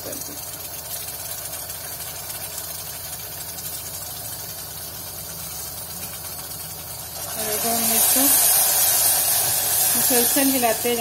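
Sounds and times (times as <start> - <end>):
caramel sizzling in saucepan: 0.0 - 11.0.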